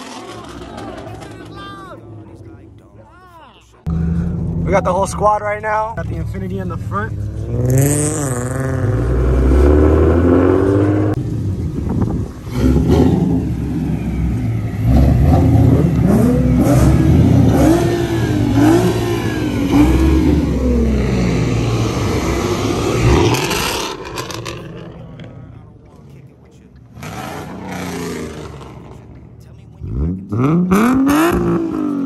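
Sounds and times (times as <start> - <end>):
car engine revving: 0.0 - 3.1, 3.8 - 32.0.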